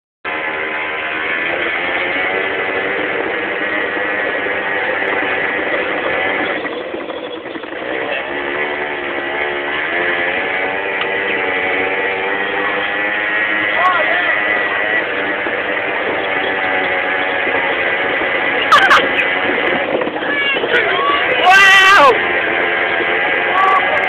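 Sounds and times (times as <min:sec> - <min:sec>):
small vehicle engine running: 0:00.3 - 0:24.0.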